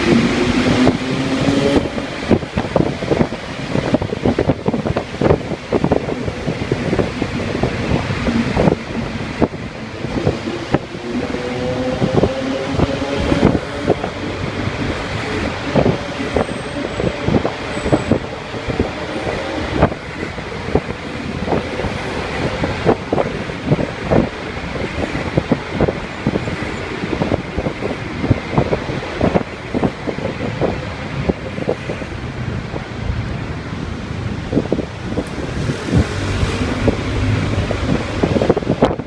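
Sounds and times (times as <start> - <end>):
road traffic: 0.0 - 39.0.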